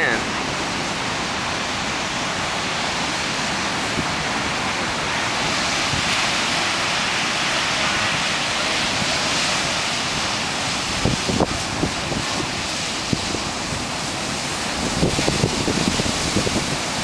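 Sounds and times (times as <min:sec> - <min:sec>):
ocean surf breaking: 0:00.0 - 0:17.0
wind on microphone: 0:01.2 - 0:17.0.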